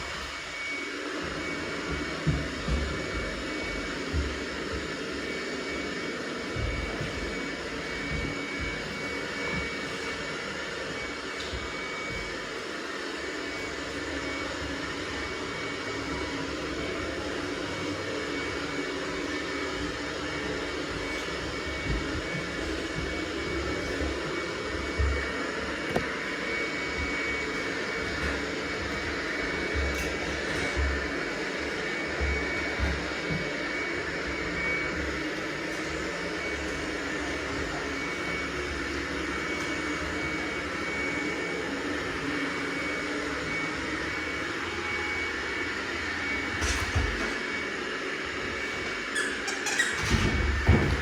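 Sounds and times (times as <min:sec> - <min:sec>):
robot vacuum cleaner whirring: 0:00.0 - 0:51.0.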